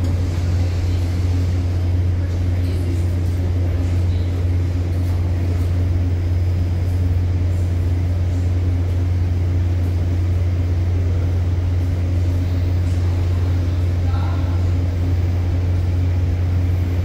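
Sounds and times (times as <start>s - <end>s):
train equipment and ventilation hum: 0.0s - 17.0s.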